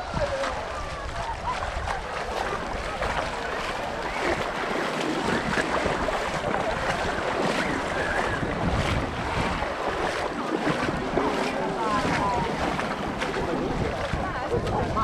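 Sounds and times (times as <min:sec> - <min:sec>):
distant voices: 0:00.0 - 0:15.0
small waves washing on shore: 0:00.0 - 0:15.0
wind buffeting microphone: 0:00.0 - 0:15.0.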